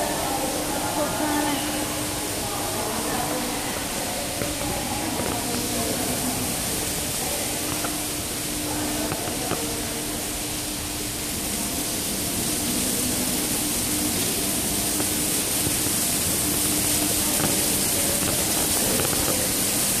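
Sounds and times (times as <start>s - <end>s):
water rushing down stairs: 0.0s - 20.0s.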